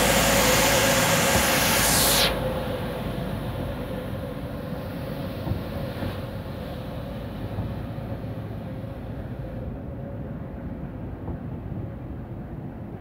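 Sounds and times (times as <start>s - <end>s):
faint steady whine: 0.0s - 12.4s
steam locomotive rumble: 0.0s - 13.0s.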